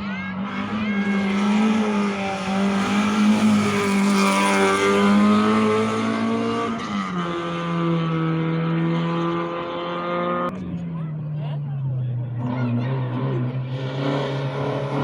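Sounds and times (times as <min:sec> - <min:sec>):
car engine at high revs: 0:00.3 - 0:10.8, 0:12.3 - 0:15.0.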